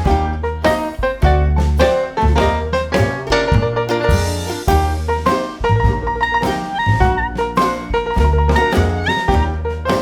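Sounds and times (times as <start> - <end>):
instrumental jazz music: 0.0 - 10.0.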